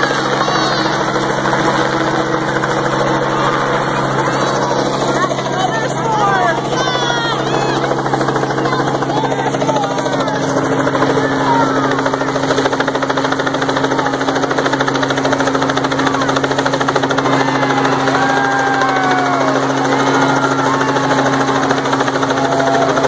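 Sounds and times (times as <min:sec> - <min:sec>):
crowd shouting: 0:00.0 - 0:23.0
helicopter blade chop: 0:00.0 - 0:23.0
helicopter engine hum: 0:00.0 - 0:23.0.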